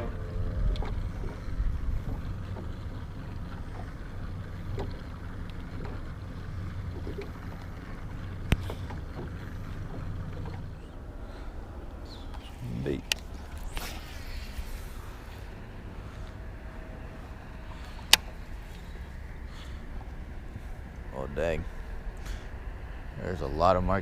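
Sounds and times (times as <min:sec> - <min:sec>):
water lapping against boat: 0:00.0 - 0:24.0
wind rumbling on microphone: 0:00.0 - 0:24.0.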